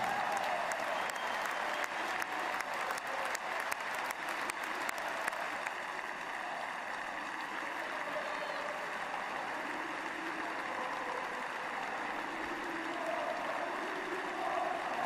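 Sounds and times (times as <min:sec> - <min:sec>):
stadium crowd applauding: 0:00.0 - 0:15.0.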